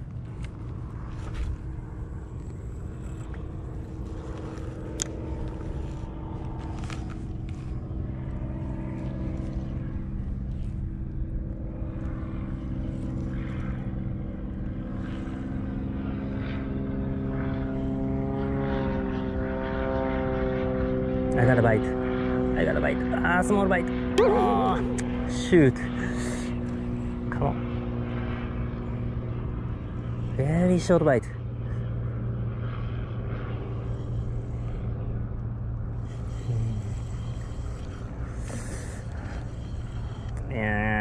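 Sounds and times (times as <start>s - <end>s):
propeller aircraft engine droning: 0.0s - 41.0s.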